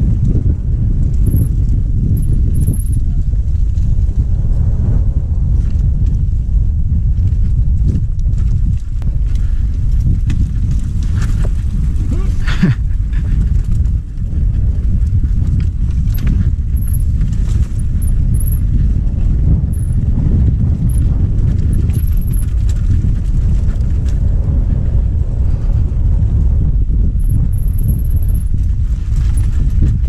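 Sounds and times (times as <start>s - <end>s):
bike rattling over bumps: 0.0s - 30.0s
wind rumble on microphone: 0.0s - 30.0s.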